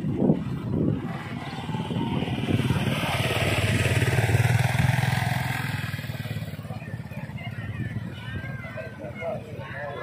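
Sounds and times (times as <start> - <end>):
small motorcycle engine passing: 0.0 - 9.8.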